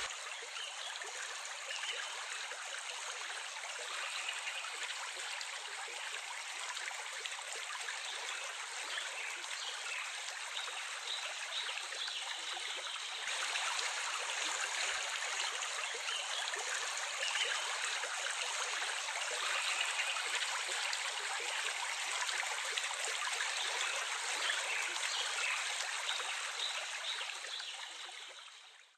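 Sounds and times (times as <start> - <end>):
small stream flowing: 0.0 - 28.9.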